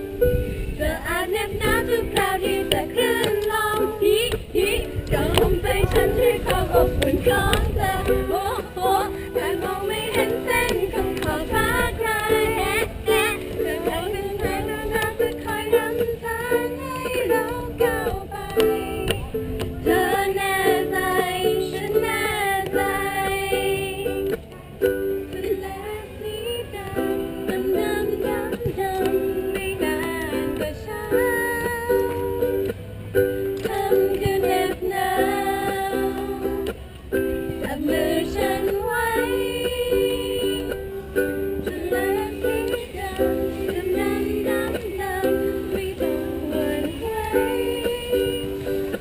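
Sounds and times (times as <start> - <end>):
ukulele strumming chords: 0.0 - 49.0
voices: 0.6 - 49.0.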